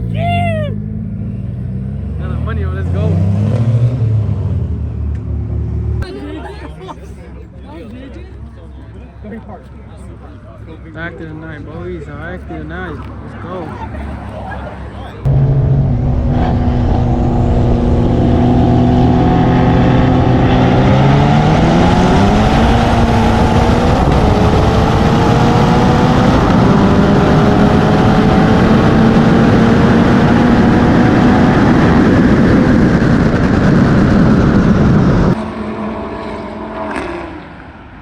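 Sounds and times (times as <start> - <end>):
turbocharged car engine accelerating: 0.0 - 6.3, 10.9 - 38.0
wind and road noise: 0.0 - 38.0.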